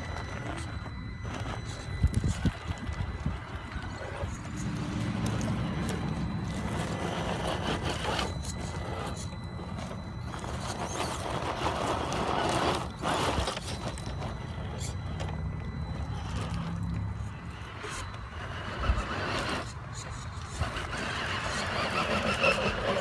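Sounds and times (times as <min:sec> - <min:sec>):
tyres crunching on stones: 0:00.0 - 0:19.7
electric motor whining: 0:00.0 - 0:23.0.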